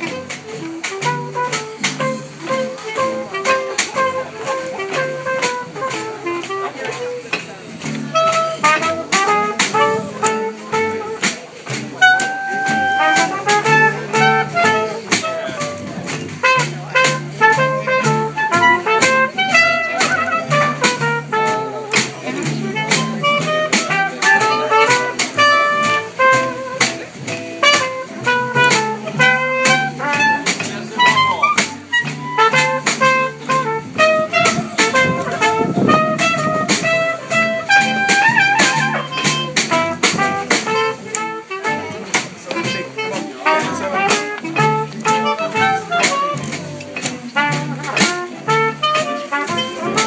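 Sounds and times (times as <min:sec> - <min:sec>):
clarinet: 0:00.0 - 0:50.0
drum kit beat: 0:00.0 - 0:50.0
electric guitar: 0:00.0 - 0:50.0
plucked upright bass: 0:00.0 - 0:50.0
trumpet: 0:00.0 - 0:50.0.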